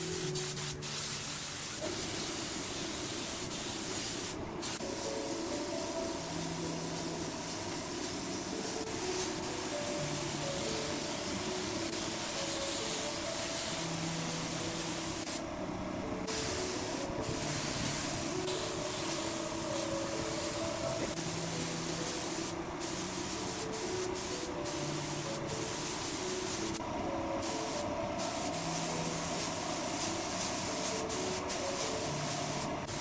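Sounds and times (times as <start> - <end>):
steady hissing noise: 0.0 - 33.0.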